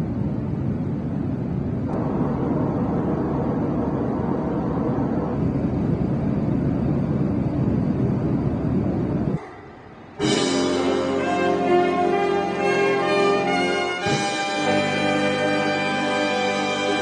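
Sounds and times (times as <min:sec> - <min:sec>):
jet airliner cabin noise: 0:00.0 - 0:16.0.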